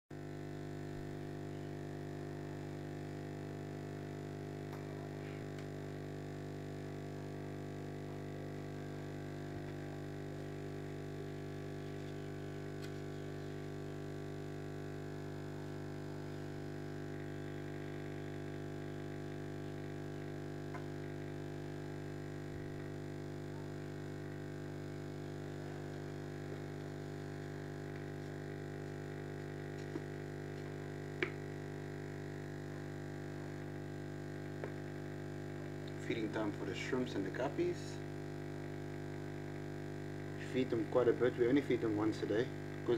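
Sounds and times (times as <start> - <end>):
aquarium air pump hum: 0.1 - 42.9.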